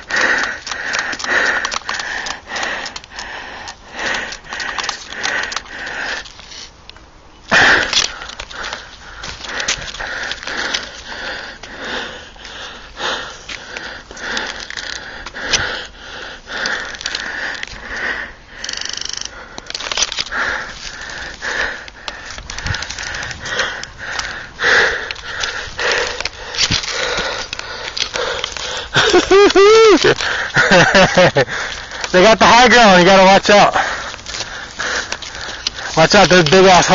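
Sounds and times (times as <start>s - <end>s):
person breathing hard: 0.0s - 6.8s, 7.5s - 36.9s.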